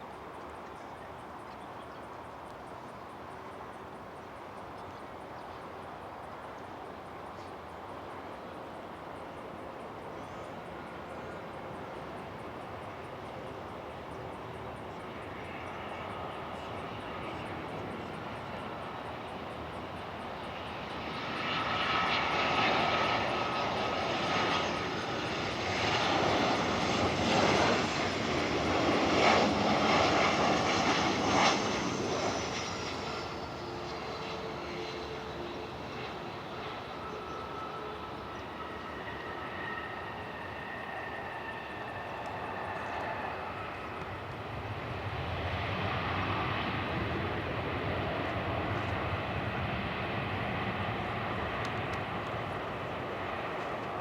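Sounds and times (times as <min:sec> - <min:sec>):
high jet engine whine: 0:00.0 - 0:54.0
jet plane passing: 0:08.8 - 0:54.0.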